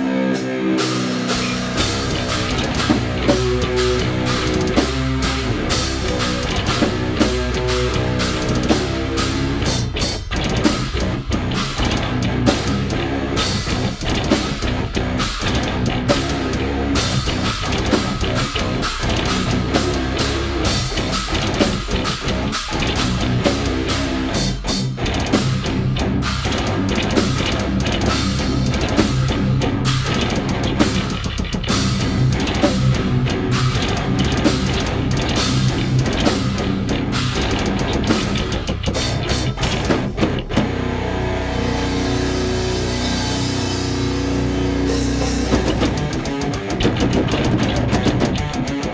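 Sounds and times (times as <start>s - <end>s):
fast drum and cymbal hits: 0.0s - 40.9s, 42.1s - 48.9s
metalcore band playing: 0.0s - 48.9s.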